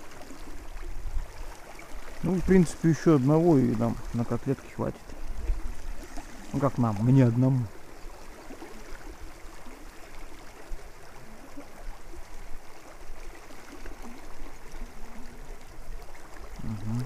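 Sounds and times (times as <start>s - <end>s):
creek rippling over stones: 0.0s - 17.0s.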